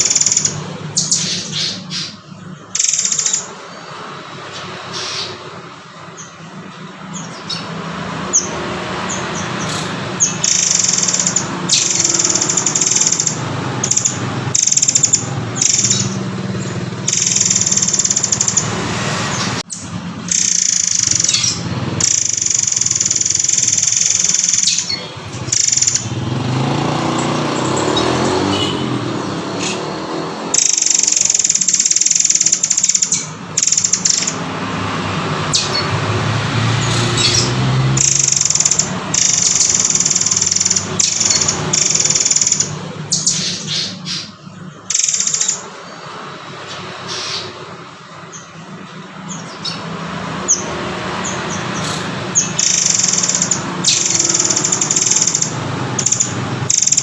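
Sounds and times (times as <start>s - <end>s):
songbird high chirping calls: 0.0s - 57.0s.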